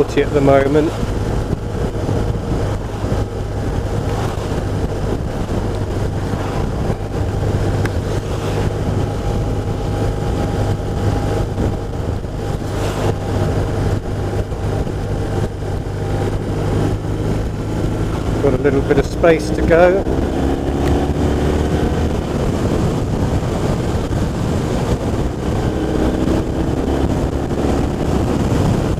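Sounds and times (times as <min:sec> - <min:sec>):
motorcycle engine cruising: 0:00.0 - 0:28.9
wind and road noise: 0:00.0 - 0:28.9.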